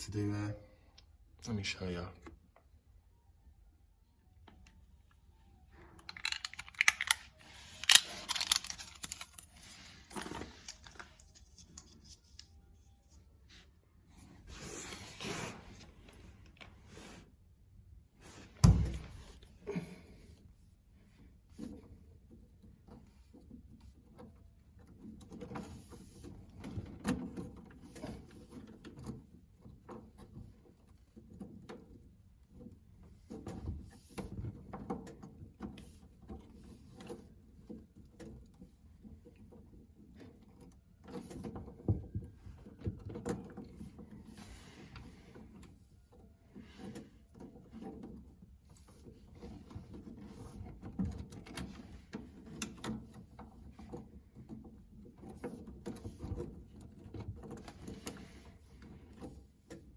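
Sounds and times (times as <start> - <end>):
hands working on plastic pipework: 4.3 - 59.9.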